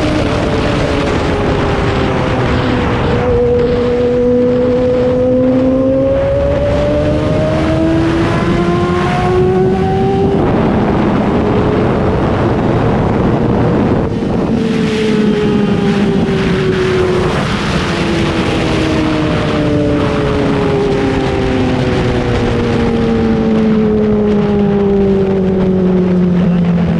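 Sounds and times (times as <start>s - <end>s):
motorcycle engine revving: 0.0s - 26.9s
wind rush: 0.0s - 26.9s.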